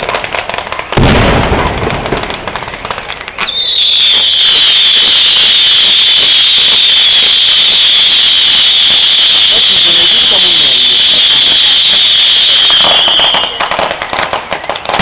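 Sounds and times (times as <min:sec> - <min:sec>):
fireworks crackling and banging: 0:00.0 - 0:15.0
high-pitched fireworks hiss: 0:01.0 - 0:15.0.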